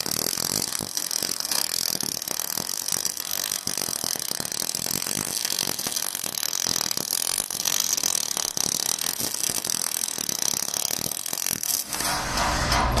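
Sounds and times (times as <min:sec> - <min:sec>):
welder hum: 0:00.0 - 0:13.0
welding arc crackling: 0:00.0 - 0:13.0.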